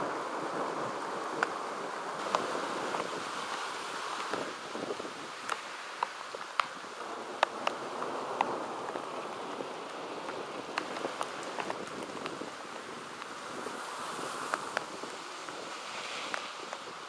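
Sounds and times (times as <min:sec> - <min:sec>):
heavy rain on asphalt: 0:00.0 - 0:17.0.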